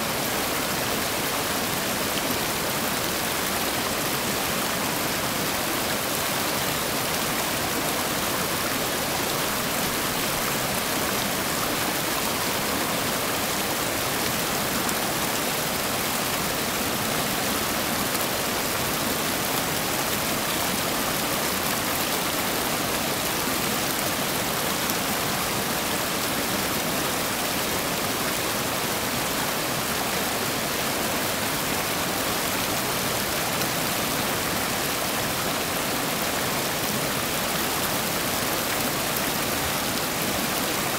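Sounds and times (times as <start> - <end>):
rapids rushing over rocks: 0.0 - 40.9.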